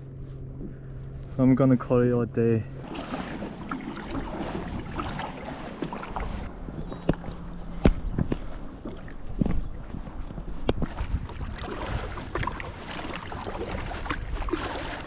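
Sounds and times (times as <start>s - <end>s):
wind: 0.0s - 15.0s
water splashing on hull: 2.7s - 15.0s.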